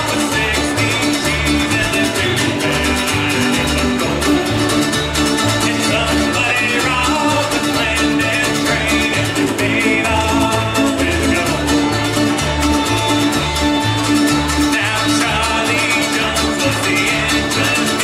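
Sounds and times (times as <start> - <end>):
bluegrass band playing: 0.0 - 18.0.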